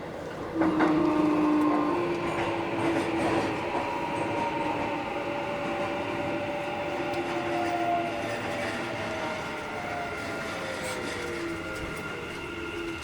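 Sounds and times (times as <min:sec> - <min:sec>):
wheel and rail rumble: 0:00.0 - 0:13.0
train motor whine: 0:00.5 - 0:13.0.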